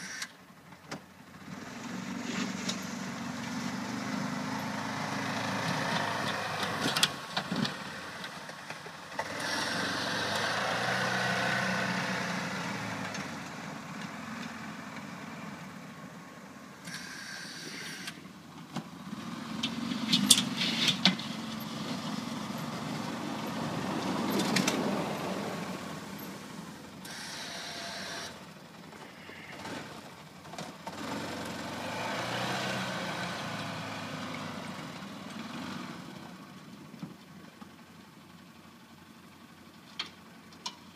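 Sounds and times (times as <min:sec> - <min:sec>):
utility vehicle engine running: 0:00.0 - 0:40.9.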